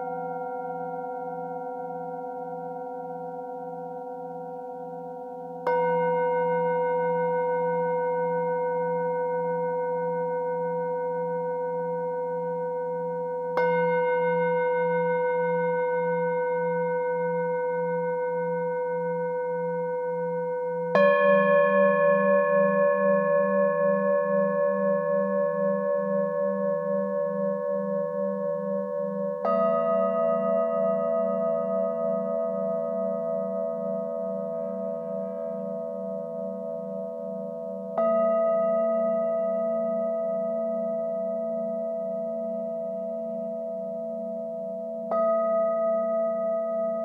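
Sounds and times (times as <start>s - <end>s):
singing bowls ringing: 0.0s - 47.0s.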